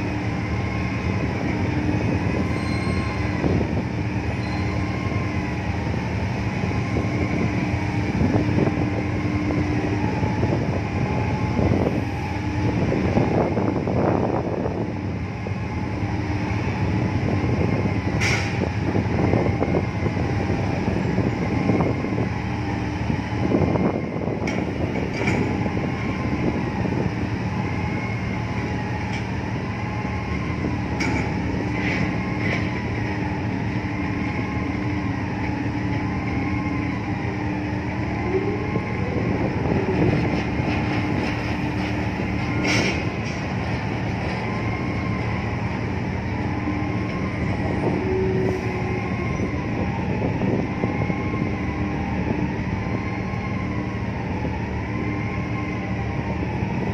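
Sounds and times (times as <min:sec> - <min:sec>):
ship engines droning: 0:00.0 - 0:56.9.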